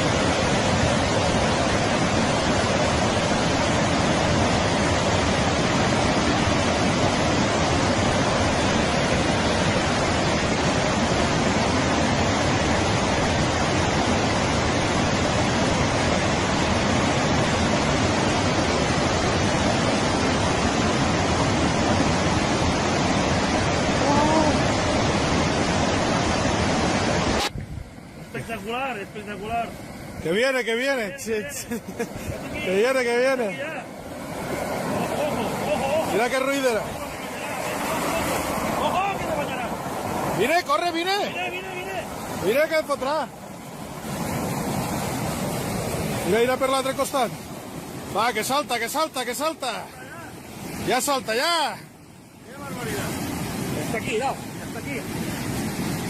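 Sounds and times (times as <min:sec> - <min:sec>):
roar of rushing water: 0:00.0 - 0:56.0.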